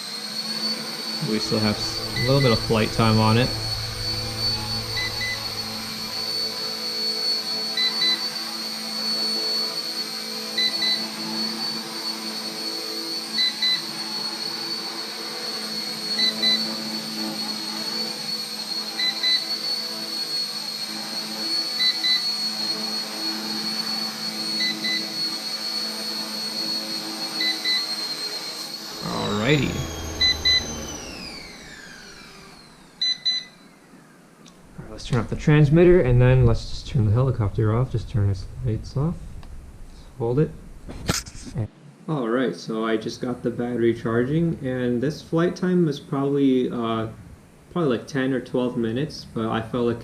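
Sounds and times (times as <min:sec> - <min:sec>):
rc helicopter rotors whining: 0:00.0 - 0:41.6.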